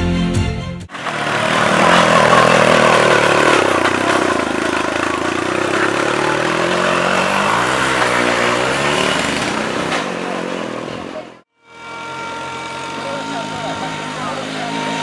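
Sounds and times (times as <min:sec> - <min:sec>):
tractor engine running hard: 0:00.9 - 0:15.0.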